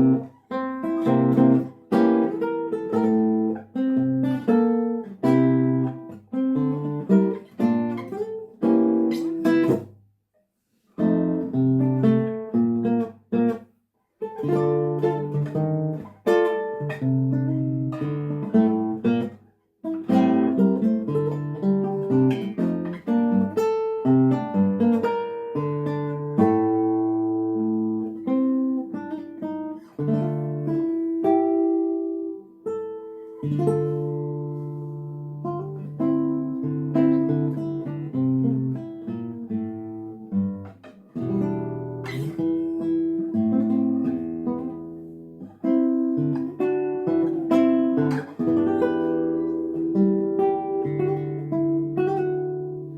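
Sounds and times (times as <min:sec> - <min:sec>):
acoustic guitar playing: 0:00.0 - 0:10.0, 0:10.7 - 0:52.9.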